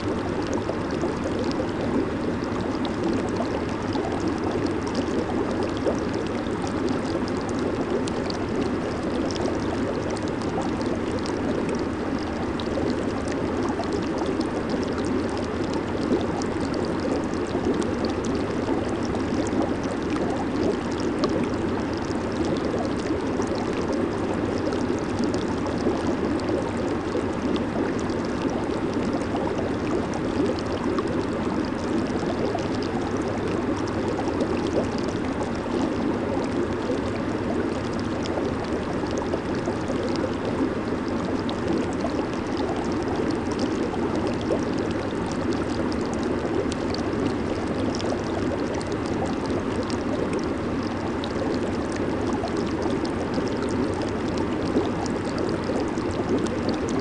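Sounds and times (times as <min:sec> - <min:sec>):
jacuzzi bubbling water: 0:00.0 - 0:57.0.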